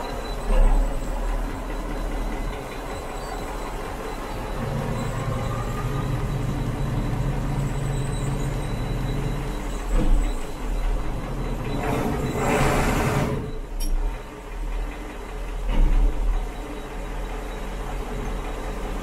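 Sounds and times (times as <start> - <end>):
boat engine low rumble: 0.0 - 19.0.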